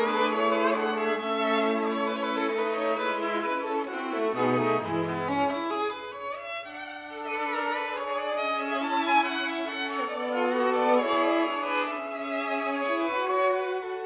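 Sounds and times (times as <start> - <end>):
cello notes: 0.0 - 14.0
violin playing slow notes: 0.0 - 14.0.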